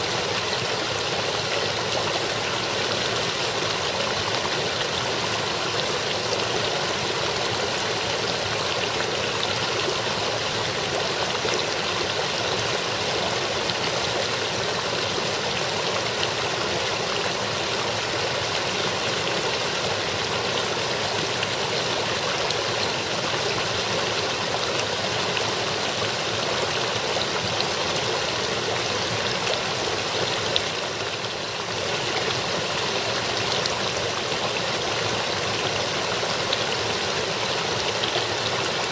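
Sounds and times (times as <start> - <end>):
brook babbling over rocks: 0.0 - 38.9.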